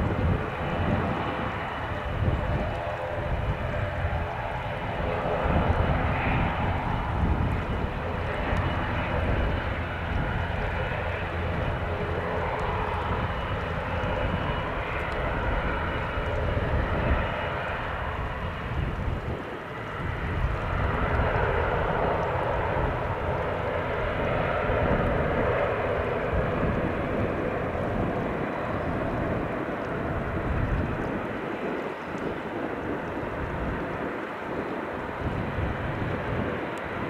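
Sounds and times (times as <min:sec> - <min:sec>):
turboprop engines running: 0:00.0 - 0:37.0.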